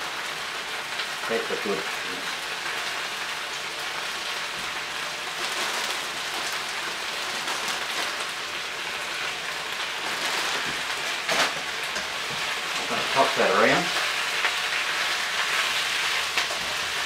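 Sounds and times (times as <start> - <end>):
chicken and vegetables sizzling in pan: 0.0 - 17.0.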